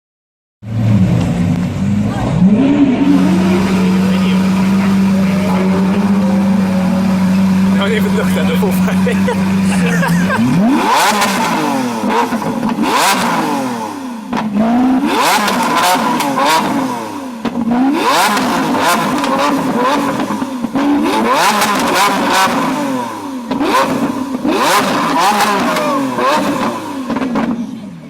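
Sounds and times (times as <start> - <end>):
car engine revving: 0.7 - 27.9.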